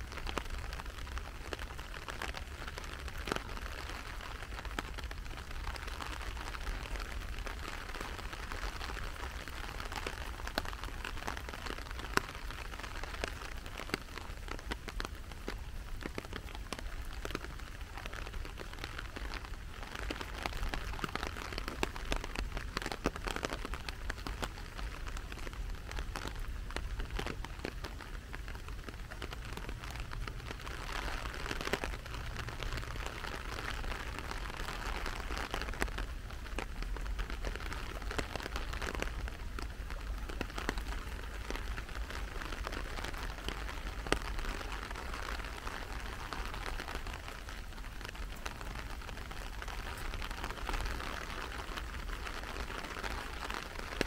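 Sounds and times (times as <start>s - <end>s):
sharp ticks of raindrops: 0.0s - 54.0s
steady rain falling: 0.0s - 54.0s.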